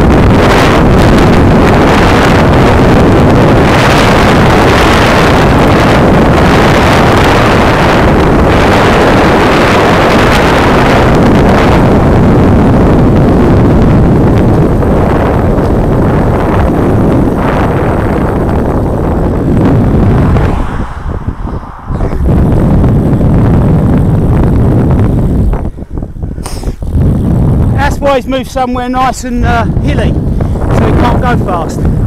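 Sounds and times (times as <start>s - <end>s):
wind noise on microphone: 0.0s - 32.0s.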